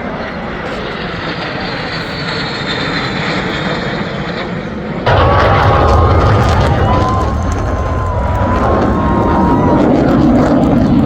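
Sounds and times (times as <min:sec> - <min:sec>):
aircraft flying by: 0:00.0 - 0:11.0.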